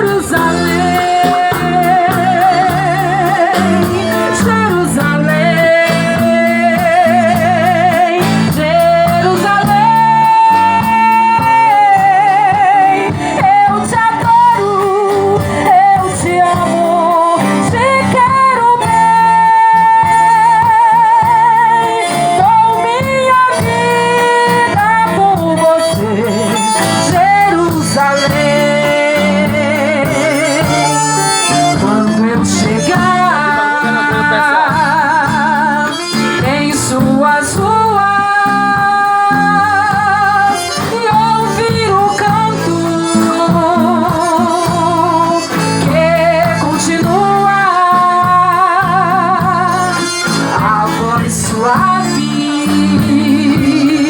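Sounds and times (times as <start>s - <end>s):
guitar: 0.0s - 54.0s
steady bass line: 0.0s - 54.0s
wordless vocal melody with vibrato: 0.0s - 54.0s.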